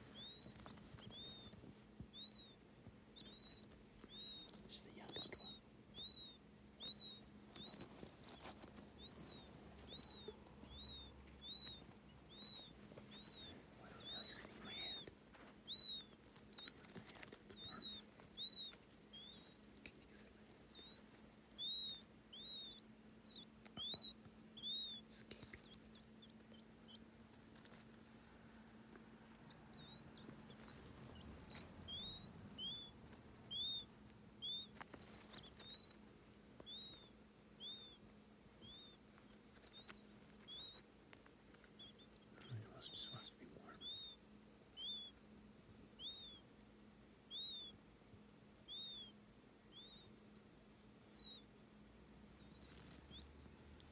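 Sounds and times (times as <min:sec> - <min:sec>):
faint low hum: 0:00.0 - 0:53.9
quail chicks peeping: 0:00.0 - 0:53.9.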